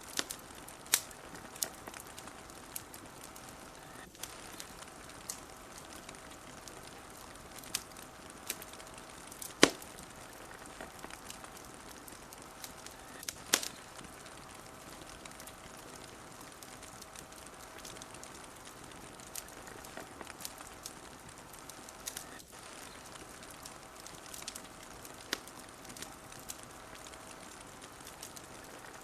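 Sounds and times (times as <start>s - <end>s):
soft fire hiss: 0.0s - 29.0s
wood fire crackling: 0.0s - 29.0s.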